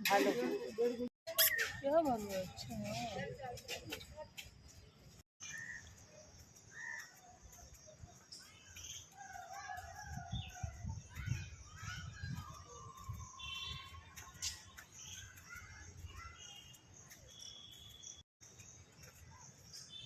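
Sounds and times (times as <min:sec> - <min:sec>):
birds calling and chirping: 0:00.7 - 0:20.0.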